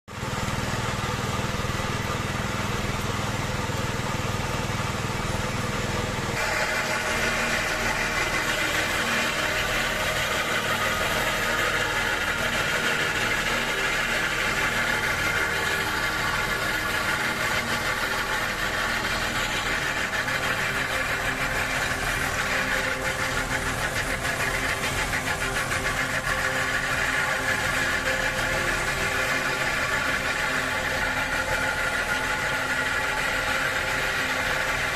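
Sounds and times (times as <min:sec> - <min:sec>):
machine engine running: 0:00.1 - 0:34.9
saw grinding through rock: 0:06.3 - 0:34.9.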